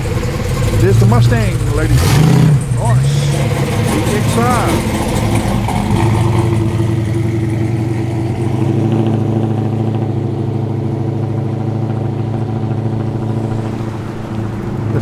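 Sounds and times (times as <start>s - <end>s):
car engines at low revs: 0.0s - 15.0s.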